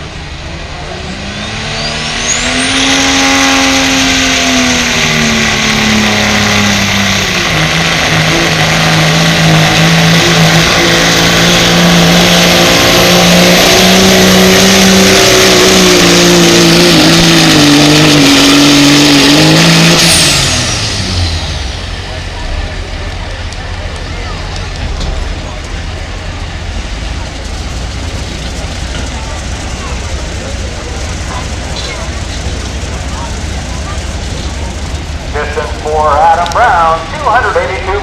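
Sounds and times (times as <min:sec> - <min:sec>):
high whine: 0:00.0 - 0:23.3, 0:29.2 - 0:38.0
pulling vehicle engine at full throttle: 0:00.0 - 0:38.0.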